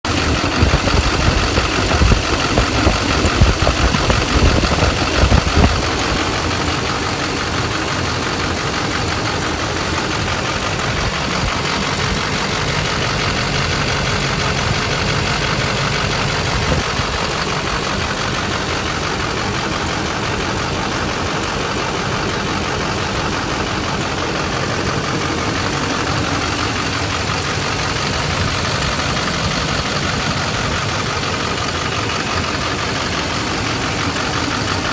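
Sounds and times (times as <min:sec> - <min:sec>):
diesel engine idling unevenly: 0:00.0 - 0:34.9.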